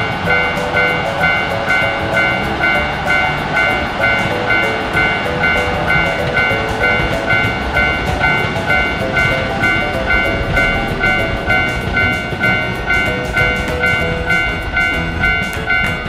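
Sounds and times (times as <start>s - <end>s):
railroad crossing bell ringing: 0.0s - 16.0s
rumble of passing trains: 0.0s - 16.0s.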